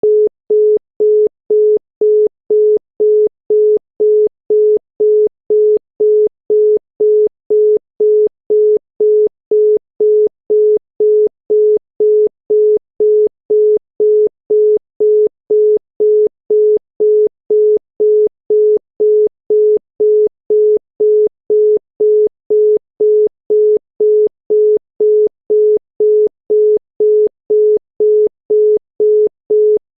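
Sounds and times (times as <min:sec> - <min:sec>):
telephone busy tone beeping: 0:00.0 - 0:29.8.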